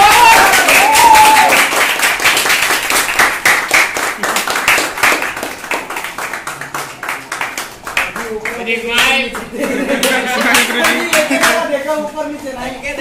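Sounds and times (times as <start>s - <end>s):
hands clapping: 0.0s - 11.8s.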